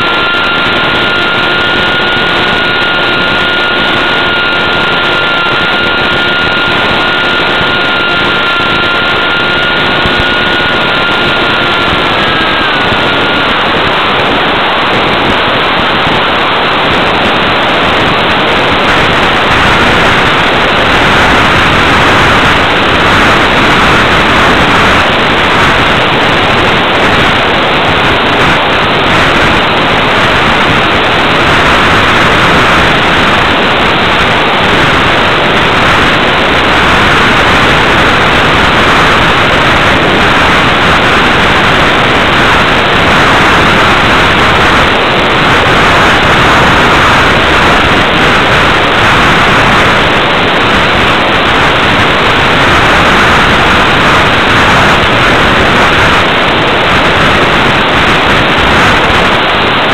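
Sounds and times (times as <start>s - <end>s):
loud static hiss: 0.0s - 59.9s.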